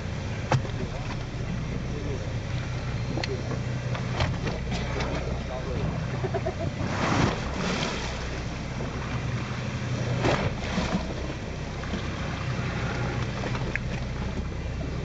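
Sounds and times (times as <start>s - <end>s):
boat engine hum: 0.0s - 15.0s
water washing against hull: 0.0s - 15.0s.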